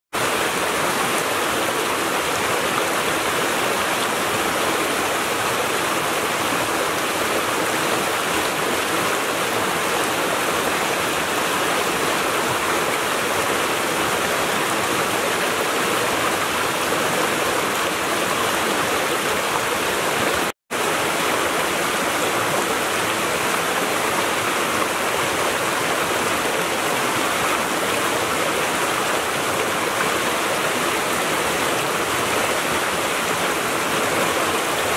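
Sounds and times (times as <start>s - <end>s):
creek rushing over rocks: 0.2s - 34.9s.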